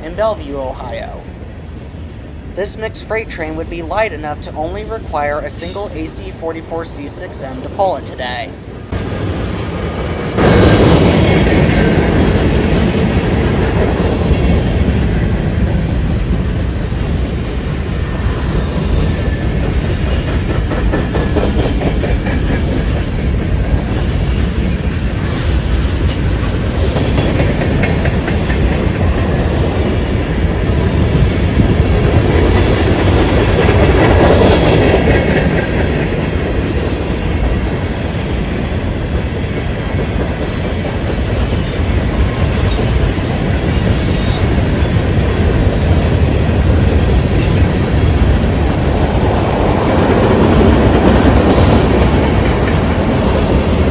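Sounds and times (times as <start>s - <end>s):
freight train rumble: 0.0s - 53.9s
train wheels clicking over rail joints: 9.0s - 53.9s.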